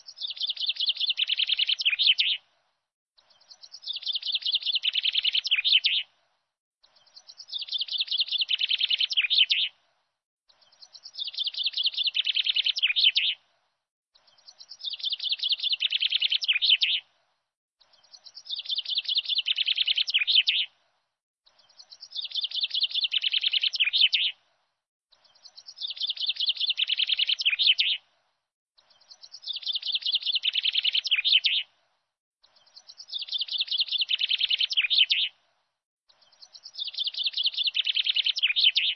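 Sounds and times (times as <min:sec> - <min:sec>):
high bird chirps: 0:00.0 - 0:02.4, 0:03.2 - 0:06.1, 0:06.8 - 0:09.7, 0:10.5 - 0:13.4, 0:14.2 - 0:17.0, 0:17.8 - 0:20.7, 0:21.5 - 0:24.4, 0:25.1 - 0:28.0, 0:28.8 - 0:31.7, 0:32.4 - 0:35.4, 0:36.1 - 0:38.9.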